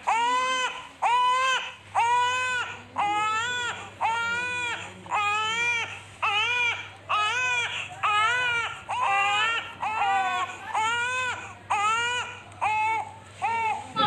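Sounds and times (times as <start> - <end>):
baby crying: 0.0 - 14.0.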